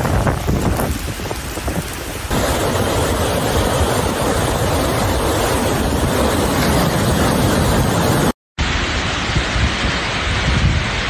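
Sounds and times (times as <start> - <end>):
flowing floodwater: 0.0 - 10.4
heavy rain pouring: 0.0 - 11.0.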